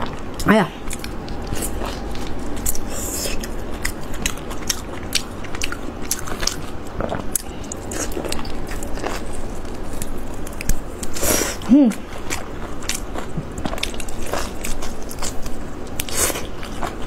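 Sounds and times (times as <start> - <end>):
person biting and chewing food: 0.0 - 17.0.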